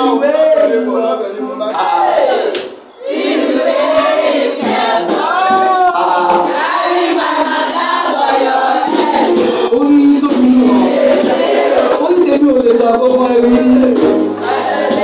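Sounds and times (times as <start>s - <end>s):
voices singing along: 0.0s - 15.0s.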